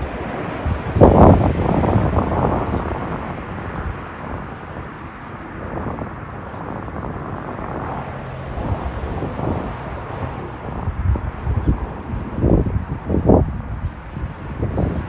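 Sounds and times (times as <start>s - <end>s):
low rumbling outdoor noise: 0.0s - 15.0s.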